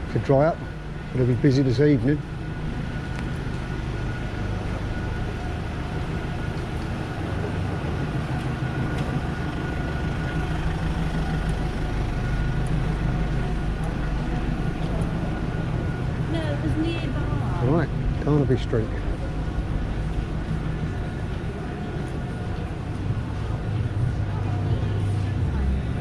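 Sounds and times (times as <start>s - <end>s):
city street noise: 0.0s - 26.0s
faint engine whine: 0.0s - 26.0s
vehicle engine humming: 0.0s - 26.0s.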